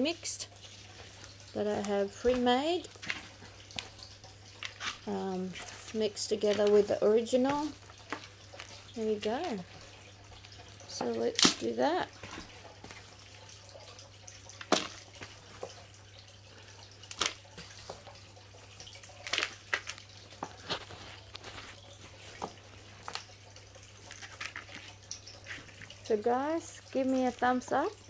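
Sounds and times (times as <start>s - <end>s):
potting mix rustling: 0.0s - 28.0s.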